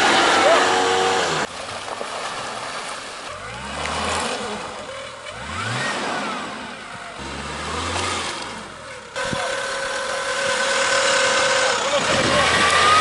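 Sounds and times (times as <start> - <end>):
off-road engine revving: 0.0 - 1.6, 3.2 - 13.0.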